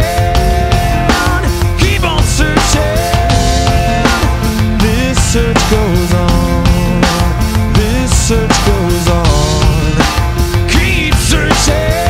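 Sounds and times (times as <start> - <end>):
drums: 0.0 - 12.0
loud rock song: 0.0 - 12.0
sliding lead melody: 0.0 - 12.0.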